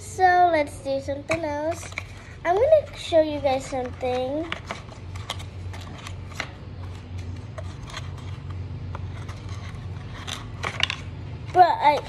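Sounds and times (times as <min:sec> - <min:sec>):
cards clicking and rustling: 0:01.3 - 0:11.1
low hum: 0:01.7 - 0:12.0.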